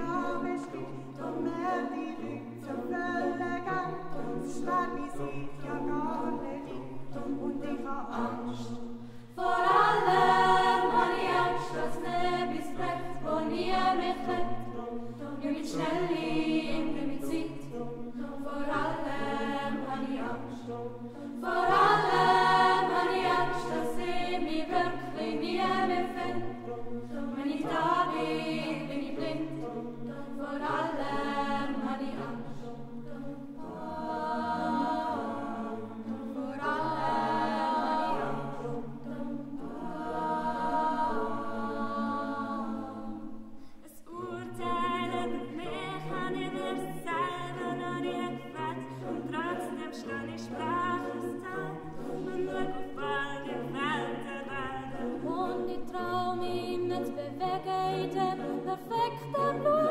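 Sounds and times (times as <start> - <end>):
youth choir singing a cappella: 0.0 - 59.9.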